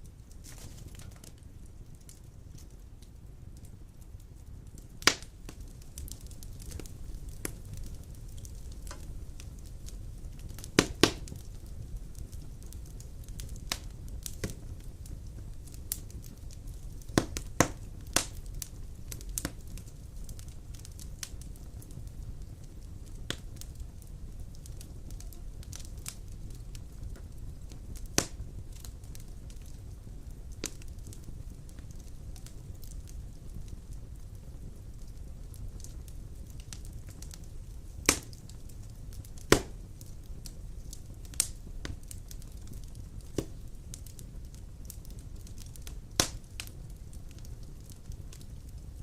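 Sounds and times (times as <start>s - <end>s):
burning wood crackling and popping: 0.0s - 49.0s
flames rumbling: 0.0s - 49.0s.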